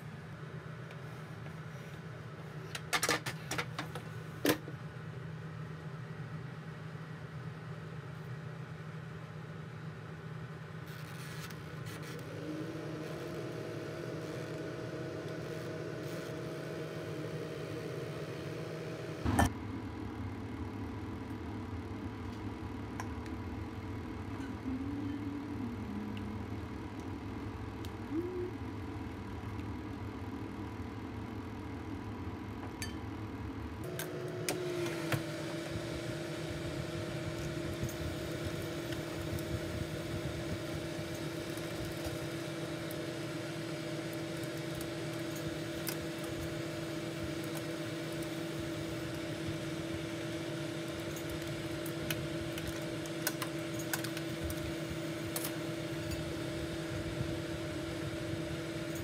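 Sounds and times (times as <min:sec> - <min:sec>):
air fryer fan humming: 0:11.6 - 0:59.0.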